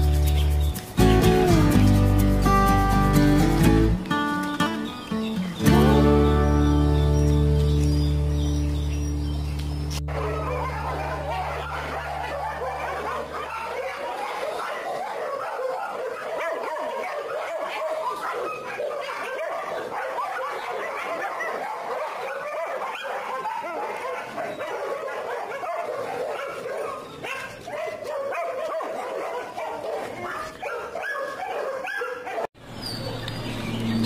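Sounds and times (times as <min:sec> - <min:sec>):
dogs barking and yipping: 0:03.1 - 0:34.0.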